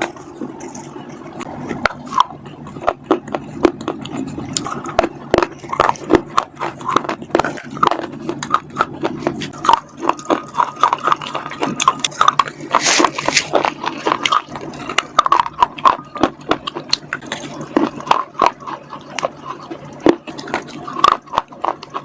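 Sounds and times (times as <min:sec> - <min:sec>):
crunchy bar being bitten: 0:00.0 - 0:22.0
steady low hum: 0:00.0 - 0:22.0.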